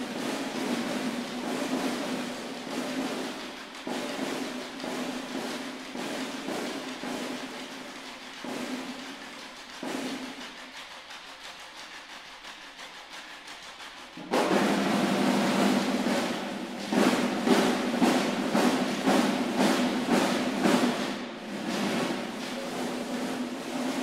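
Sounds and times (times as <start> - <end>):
snare drum accents: 0.0 - 24.0
snare drums rolling: 0.0 - 24.0.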